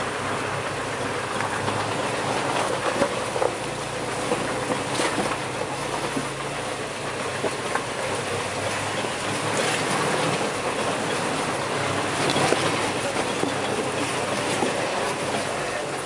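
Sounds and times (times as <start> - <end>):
engine drone: 0.0 - 16.0
vehicle body rattling and knocking: 0.4 - 16.0.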